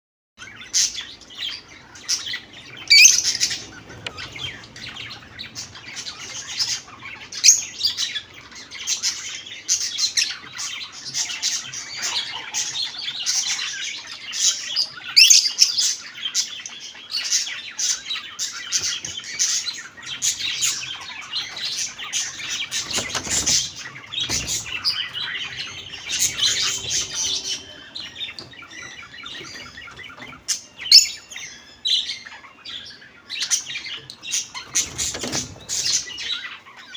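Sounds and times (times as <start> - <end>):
caged birds chirping: 0.4 - 36.9.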